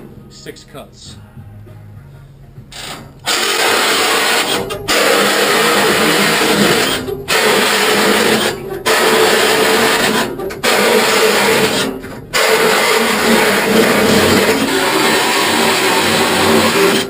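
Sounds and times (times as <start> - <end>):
reciprocating saw cutting steel tubing: 2.8 - 17.0.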